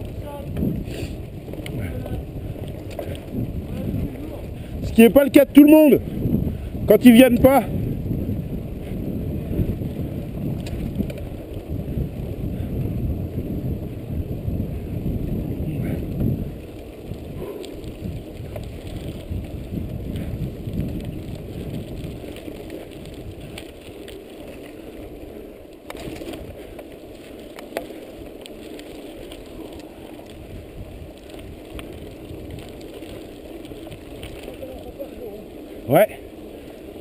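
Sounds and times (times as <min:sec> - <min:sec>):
bike ticks and rattles: 0:00.0 - 0:37.0
bike tyres rolling over dirt: 0:00.0 - 0:37.0.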